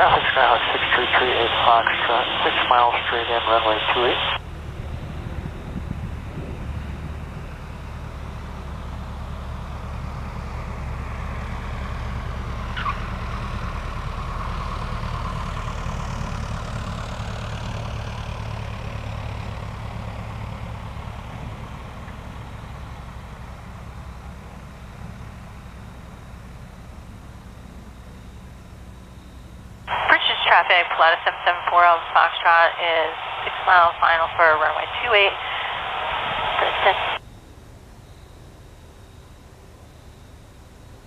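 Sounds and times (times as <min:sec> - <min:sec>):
propeller plane landing: 0:00.0 - 0:41.0.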